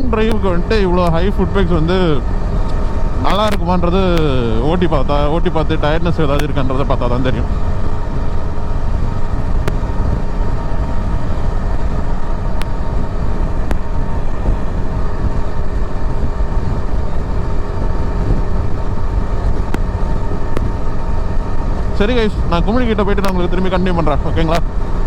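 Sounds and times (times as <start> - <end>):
motorcycle engine cruising: 0.0 - 25.0
rush of riding noise: 0.0 - 25.0.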